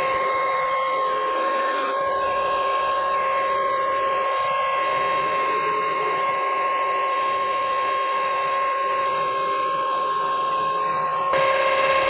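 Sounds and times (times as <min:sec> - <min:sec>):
lathe tool cutting brass: 0:00.0 - 0:12.0
metal lathe whining: 0:00.0 - 0:12.0.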